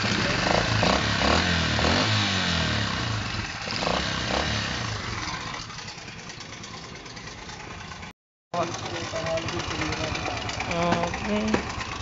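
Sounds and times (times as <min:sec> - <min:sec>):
scooter engine idling: 0:00.0 - 0:01.9, 0:02.8 - 0:12.0.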